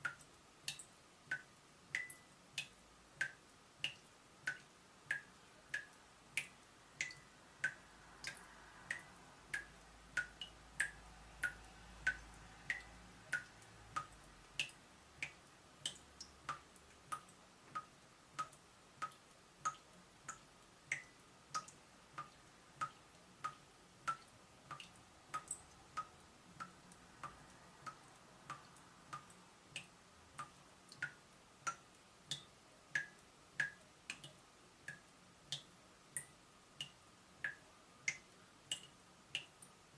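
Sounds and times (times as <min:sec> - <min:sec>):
water drops plinking into water: 0:00.0 - 0:39.7.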